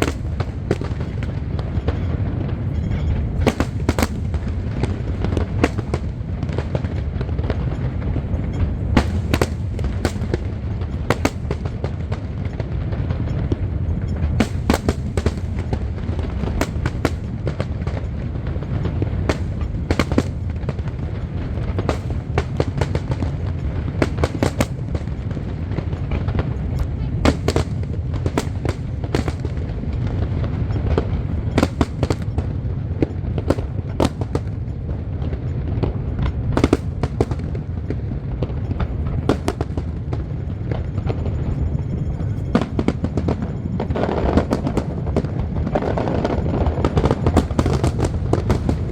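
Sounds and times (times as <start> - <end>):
fireworks bangs and crackles: 0.0 - 48.9
fireworks rumble: 0.0 - 48.9.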